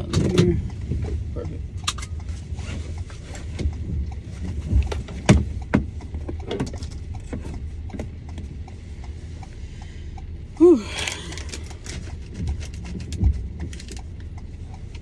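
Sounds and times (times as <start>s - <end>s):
car interior low rumble: 0.0s - 15.0s.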